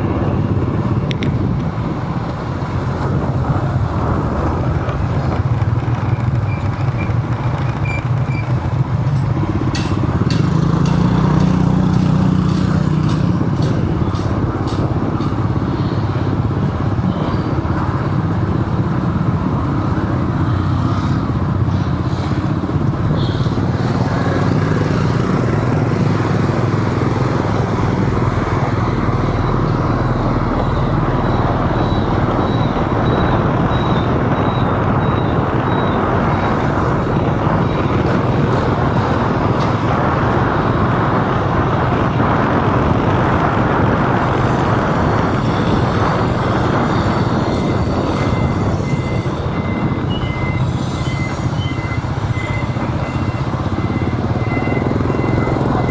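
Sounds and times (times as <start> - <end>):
vehicle engine and road noise: 0.0 - 55.9.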